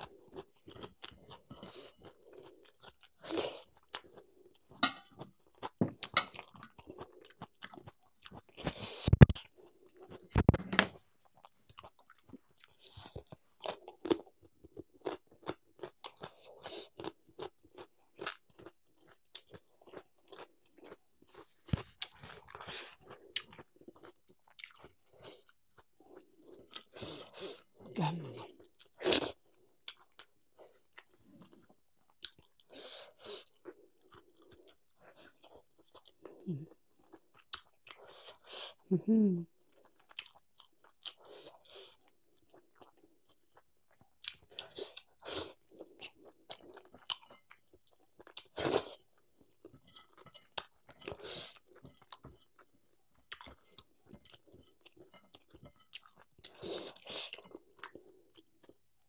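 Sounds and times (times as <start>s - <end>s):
person chewing and crunching: 0.0s - 38.9s, 39.6s - 59.0s.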